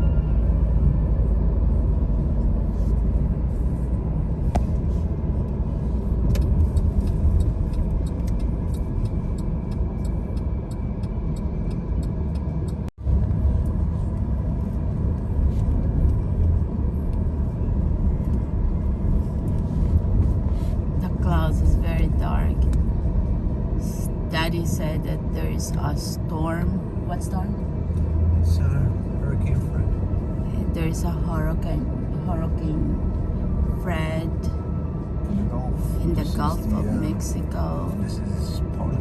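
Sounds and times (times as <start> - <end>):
car road rumble inside cabin: 0.0 - 39.0.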